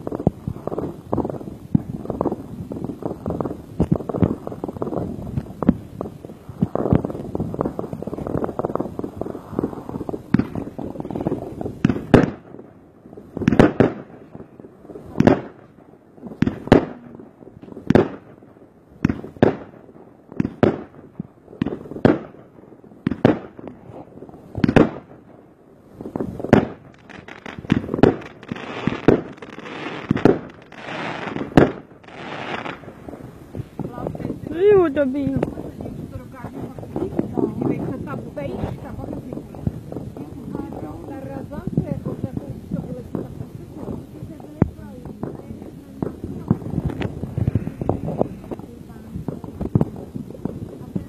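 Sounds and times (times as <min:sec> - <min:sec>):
crackle of small fireworks bursts: 0:00.0 - 0:51.0
fireworks bangs: 0:00.0 - 0:51.0.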